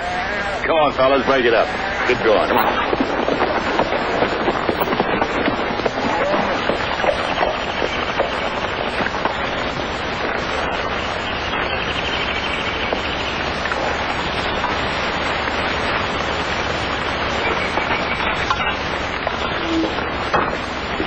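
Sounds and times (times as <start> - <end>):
film soundtrack hiss and crackle: 0.0 - 21.0.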